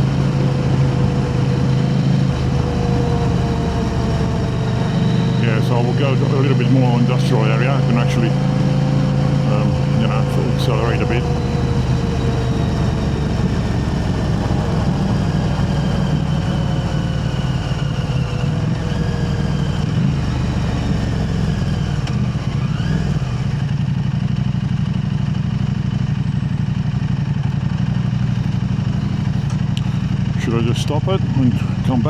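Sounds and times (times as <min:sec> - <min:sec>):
motorcycle engine exhaust note: 0:00.0 - 0:31.9.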